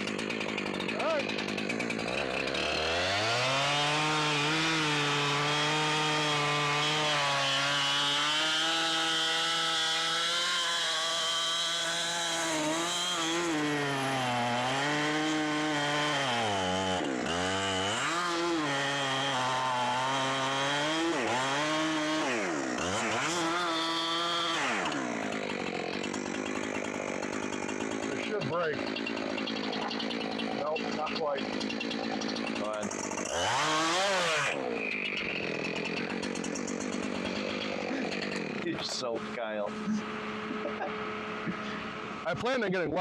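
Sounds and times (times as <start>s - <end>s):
chainsaw cutting log: 0.0s - 43.0s.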